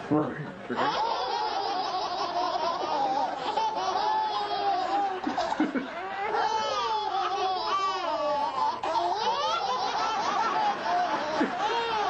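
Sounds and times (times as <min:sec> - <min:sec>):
babies laughing: 0:00.7 - 0:12.0.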